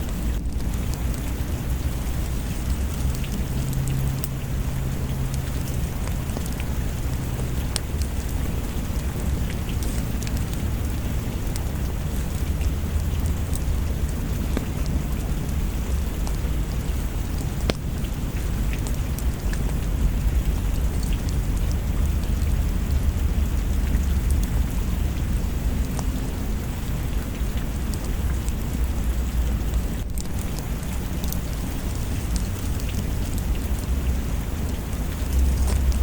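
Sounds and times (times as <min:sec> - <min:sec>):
sharp drips: 0:00.0 - 0:36.0
steady rain falling: 0:00.0 - 0:36.0.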